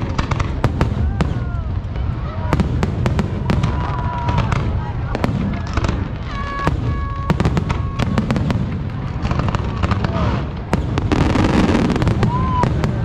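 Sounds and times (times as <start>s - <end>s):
fireworks bursting bangs: 0.0s - 13.0s
fireworks whistling: 0.0s - 13.0s.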